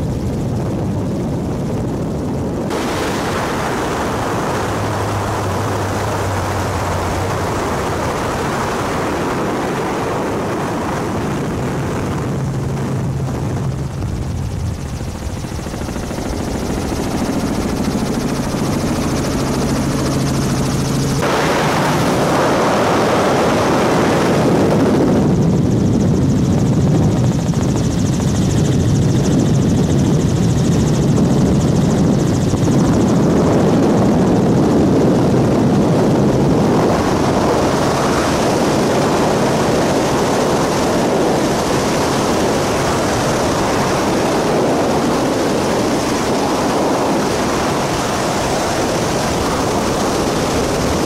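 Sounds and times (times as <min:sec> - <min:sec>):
helicopter rotor and engine drone: 0:00.0 - 0:51.0.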